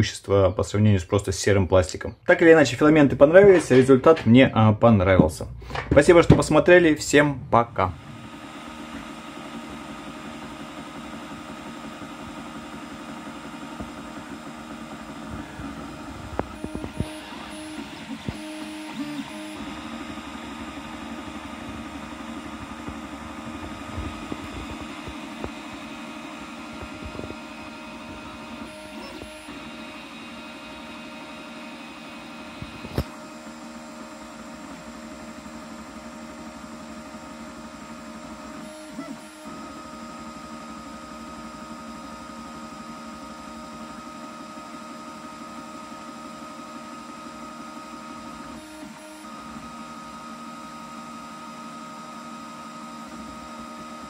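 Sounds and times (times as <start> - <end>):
three d printer whine: 2.3 - 54.0.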